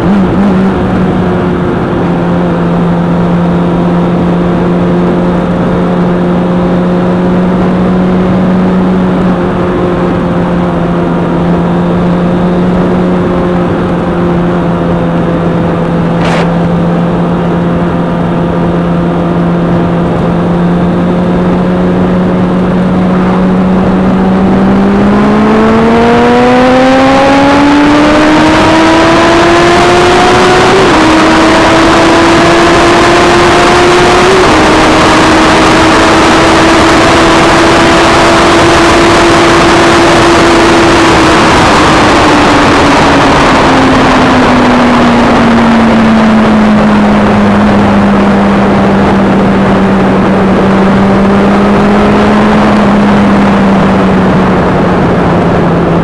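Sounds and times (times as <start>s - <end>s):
vehicle engine accelerating: 0.0s - 56.0s
wind rush: 0.0s - 56.0s.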